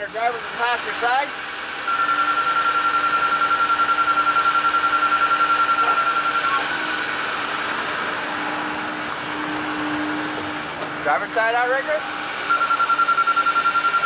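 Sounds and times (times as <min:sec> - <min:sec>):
low hydraulic hum: 0:00.3 - 0:14.0
high-pitched hydraulic whine: 0:00.6 - 0:14.0.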